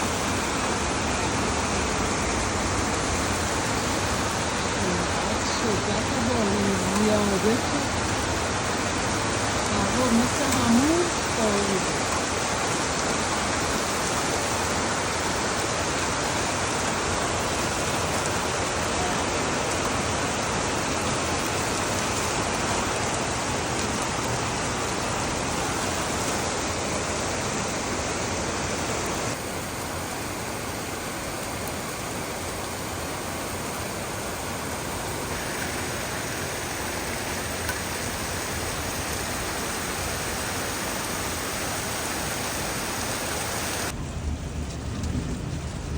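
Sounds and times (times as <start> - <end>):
heavy rain hissing: 0.0 - 45.9.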